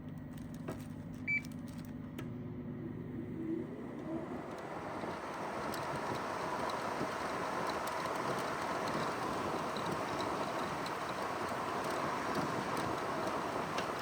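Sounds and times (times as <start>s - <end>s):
window air conditioner running: 0.0s - 14.0s.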